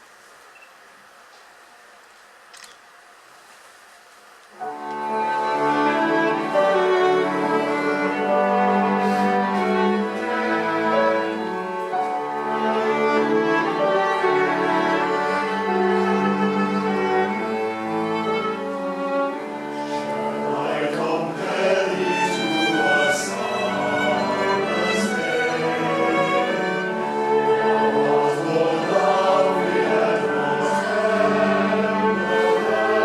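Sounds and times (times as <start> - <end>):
string ensemble playing chords: 4.6 - 33.0.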